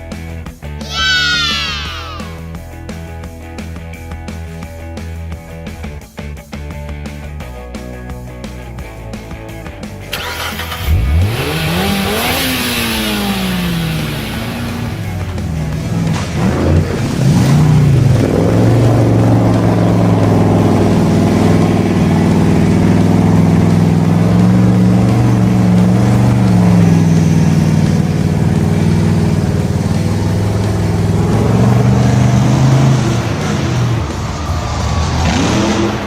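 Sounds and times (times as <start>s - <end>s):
vehicle engine running: 2.3s - 36.0s.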